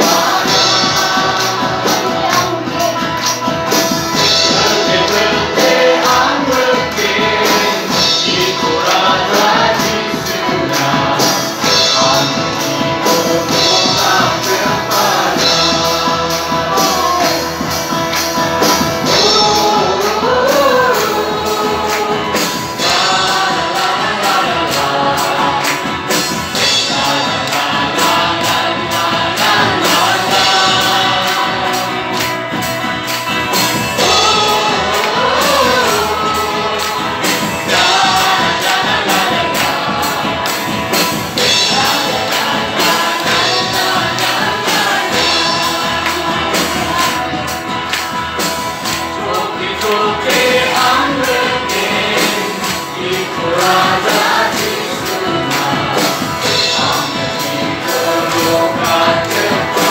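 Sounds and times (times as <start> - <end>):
acoustic guitar: 0.0 - 59.9
drum and percussion beat: 0.0 - 59.9
group of voices singing: 0.0 - 59.9.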